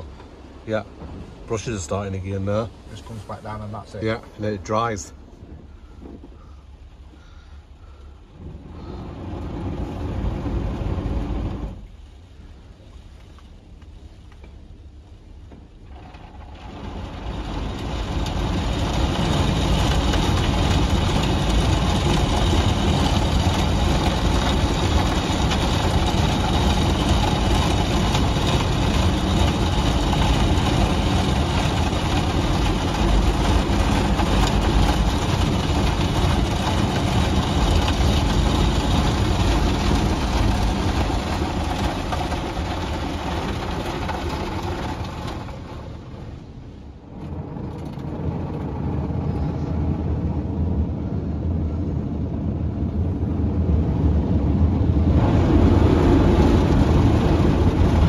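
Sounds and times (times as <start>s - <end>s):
car wash drying blowers: 0.0s - 6.4s, 8.2s - 58.0s.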